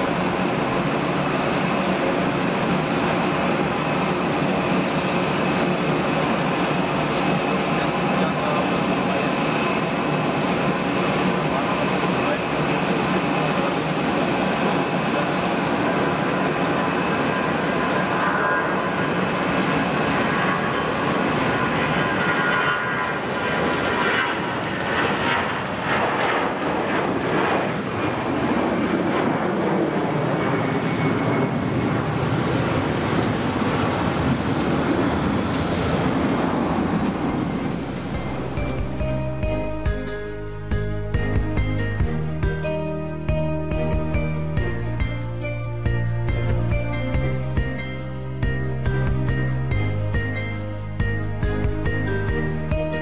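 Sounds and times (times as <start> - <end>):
jet engines roaring with whine: 0.0 - 53.0.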